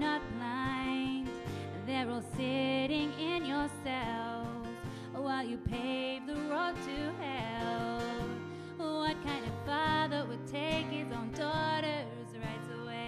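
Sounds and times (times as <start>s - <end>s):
strummed acoustic guitar: 0.0s - 13.0s
woman singing: 0.0s - 13.0s.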